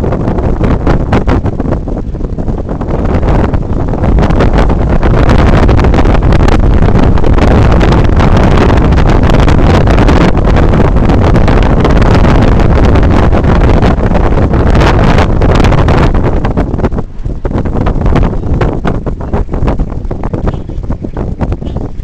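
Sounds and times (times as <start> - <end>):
moving vehicle running noise: 0.0 - 22.0
wind buffeting microphone: 0.0 - 22.0.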